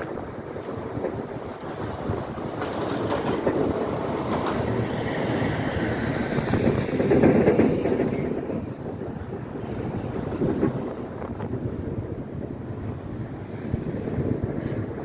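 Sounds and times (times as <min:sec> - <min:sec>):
train passing: 0:00.0 - 0:15.0.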